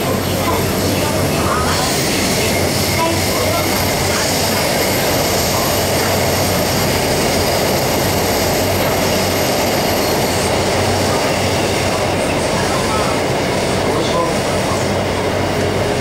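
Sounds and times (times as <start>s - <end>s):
metro train rumble: 0.0s - 16.0s.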